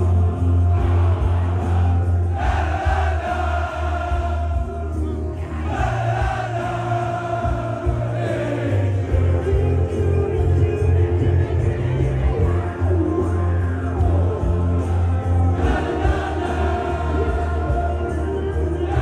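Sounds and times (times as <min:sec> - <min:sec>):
crowd singing together: 0:00.0 - 0:19.0.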